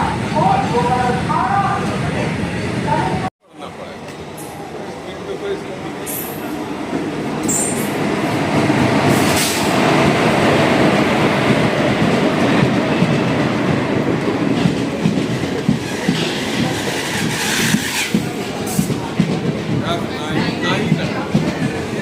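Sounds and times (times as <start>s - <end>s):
train wheels rumbling on track: 3.7s - 22.0s.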